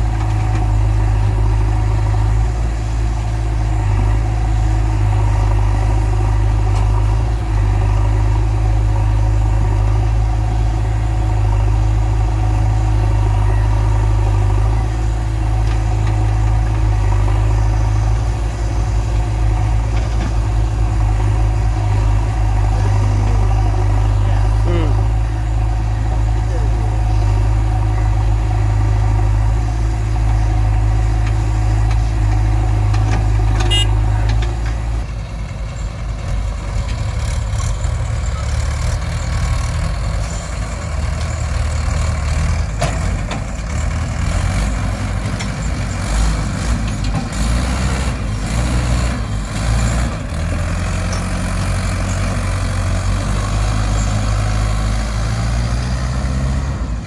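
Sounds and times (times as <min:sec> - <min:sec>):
diesel machinery engine droning: 0:00.0 - 0:57.0.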